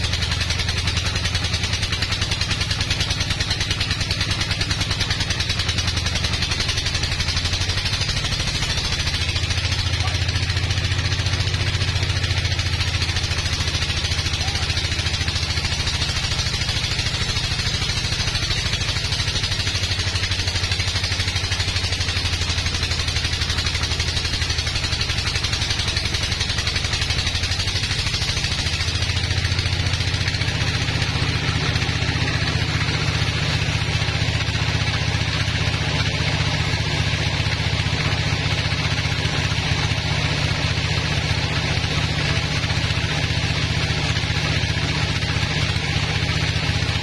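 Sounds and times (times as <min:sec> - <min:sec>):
low machine drive drone: 0:00.0 - 0:47.0.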